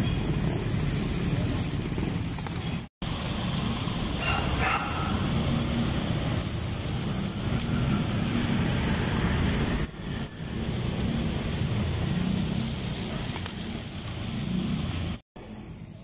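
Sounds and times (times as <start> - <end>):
motorbikes passing: 0.0 - 16.0
road traffic: 0.0 - 16.0.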